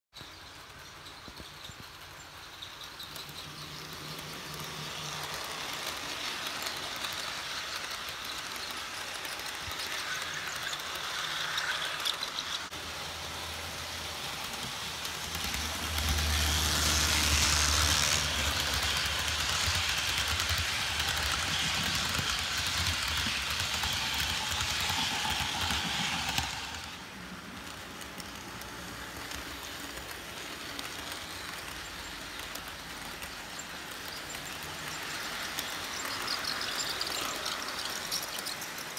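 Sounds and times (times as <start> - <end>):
model train wheels rumbling on rail: 0.2 - 38.9.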